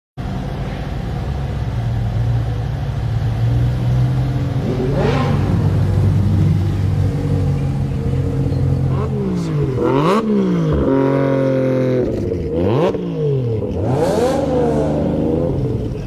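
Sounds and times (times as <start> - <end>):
car engine running: 0.2 - 16.0.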